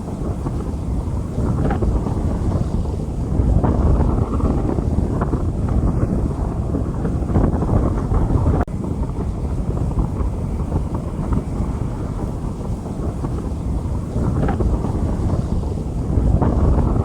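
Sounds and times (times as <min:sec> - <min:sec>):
rain falling on street: 0:00.0 - 0:17.0
wind buffeting microphone: 0:00.0 - 0:17.0.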